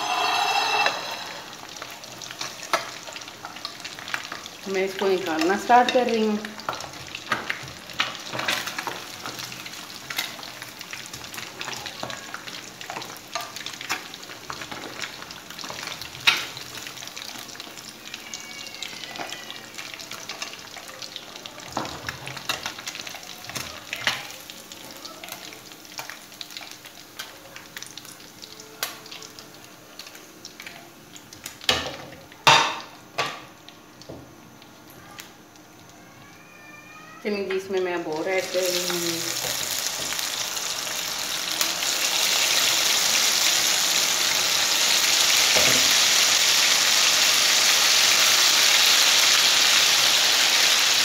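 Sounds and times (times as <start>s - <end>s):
fish frying in hot oil: 0.0s - 51.0s.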